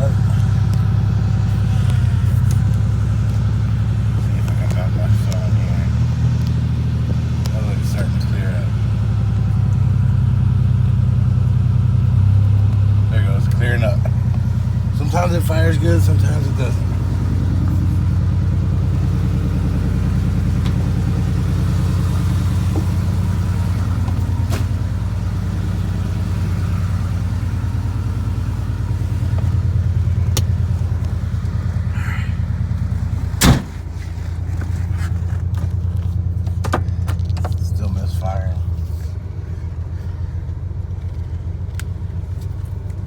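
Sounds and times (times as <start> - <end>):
engine misfire: 0.0 - 42.4
engine idling unevenly: 0.0 - 43.0.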